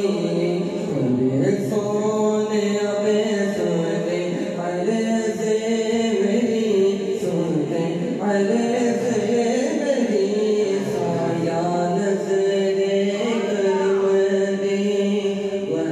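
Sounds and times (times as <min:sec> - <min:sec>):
man singing unaccompanied: 0:00.0 - 0:15.9.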